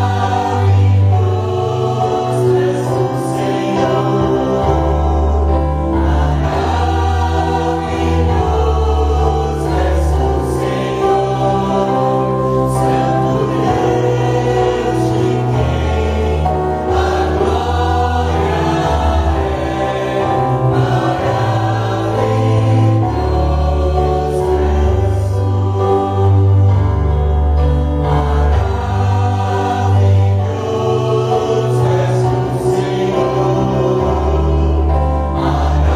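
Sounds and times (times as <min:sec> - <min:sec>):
group singing worship music: 0:00.0 - 0:35.9
instrumental accompaniment: 0:00.0 - 0:35.9.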